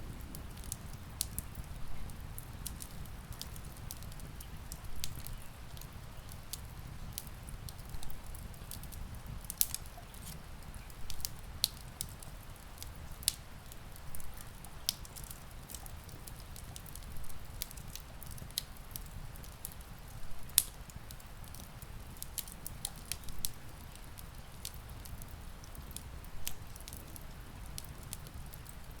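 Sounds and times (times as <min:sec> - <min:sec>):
low rumble of rain: 0:00.0 - 0:29.0
wood fire crackling and popping: 0:00.0 - 0:29.0.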